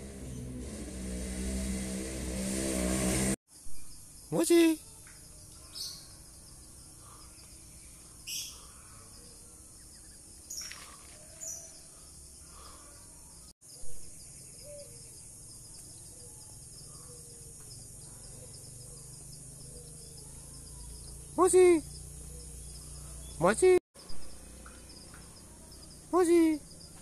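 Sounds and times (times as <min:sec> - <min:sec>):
insect chirring: 0:03.6 - 0:27.0
bird chirps: 0:03.7 - 0:27.0.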